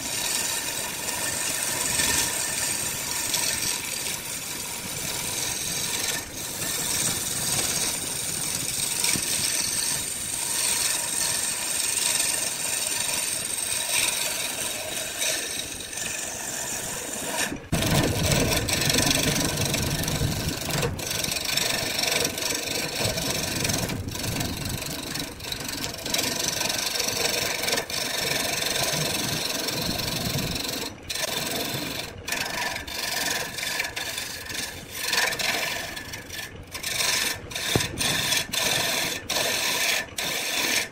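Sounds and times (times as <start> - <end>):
chisel scraping spinning wood: 0.0 - 40.9
wood lathe running: 0.0 - 40.9.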